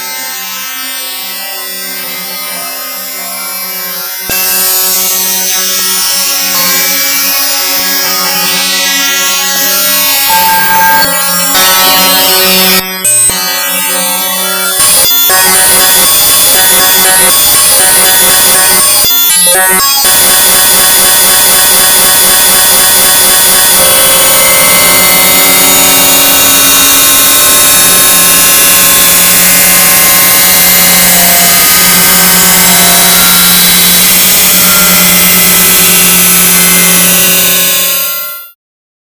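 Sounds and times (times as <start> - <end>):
harsh electronic drone: 0.0 - 38.6.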